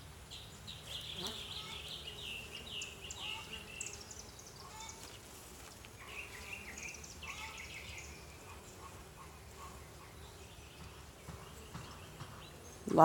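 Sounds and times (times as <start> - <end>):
honeybees buzzing: 0.1 - 13.0
birds chirping: 0.2 - 13.0.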